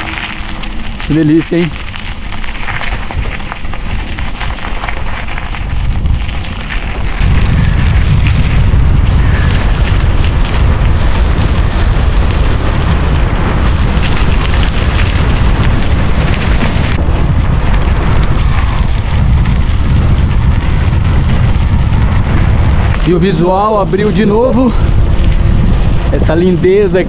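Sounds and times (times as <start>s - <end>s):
mountain bike rumbling: 0.0s - 27.0s
wind buffeting microphone: 0.0s - 27.0s.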